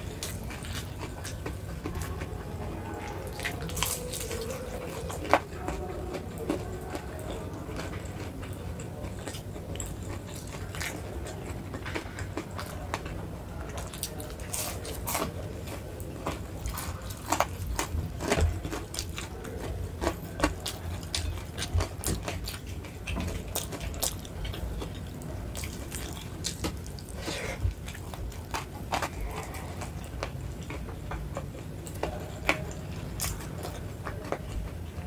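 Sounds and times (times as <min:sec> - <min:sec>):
wet chewing and mouth smacks: 0:00.0 - 0:35.0.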